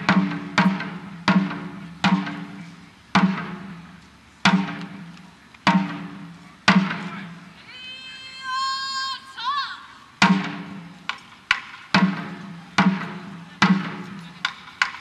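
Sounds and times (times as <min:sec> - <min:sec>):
taiko drum strokes: 0:00.0 - 0:07.6, 0:10.2 - 0:15.0.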